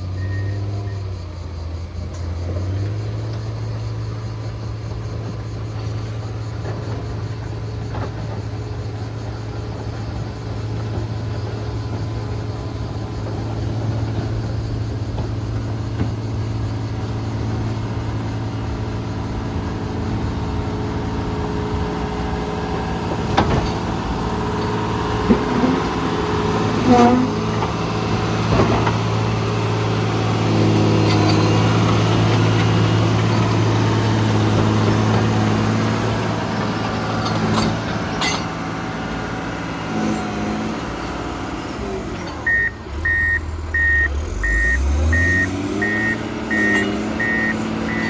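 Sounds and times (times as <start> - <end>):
diesel engine running steadily: 0.0 - 48.0.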